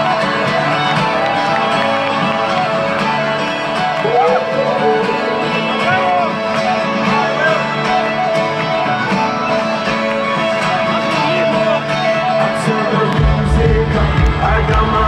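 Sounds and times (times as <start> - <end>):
electric guitar lead: 0.0 - 15.0
live rock band instrumental: 0.0 - 15.0.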